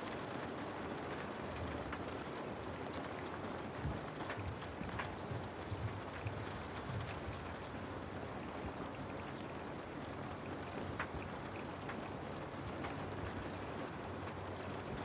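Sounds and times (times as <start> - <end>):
raindrops tapping on a window: 0.0 - 15.0
steady rain hiss: 0.0 - 15.0.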